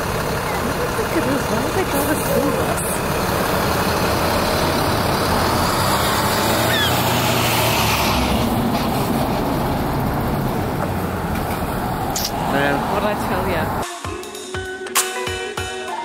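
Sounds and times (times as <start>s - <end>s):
passing car traffic: 0.0s - 13.8s
school bus engine driving past: 0.0s - 13.8s.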